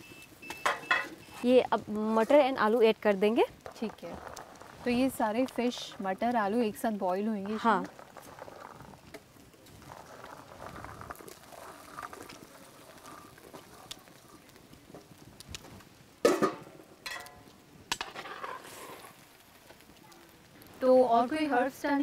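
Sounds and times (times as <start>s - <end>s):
curry simmering in a wok: 0.0s - 22.0s.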